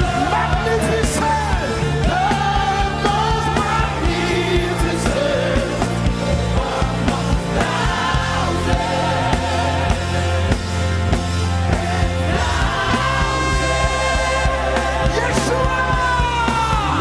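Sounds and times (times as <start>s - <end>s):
steady drum beat: 0.0s - 17.0s
sustained bass: 0.0s - 17.0s.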